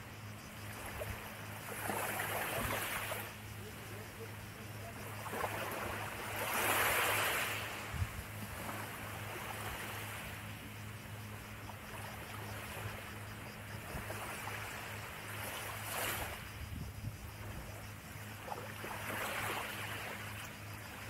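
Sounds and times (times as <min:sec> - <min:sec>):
waves lapping on beach: 0:00.0 - 0:16.6, 0:17.2 - 0:21.0.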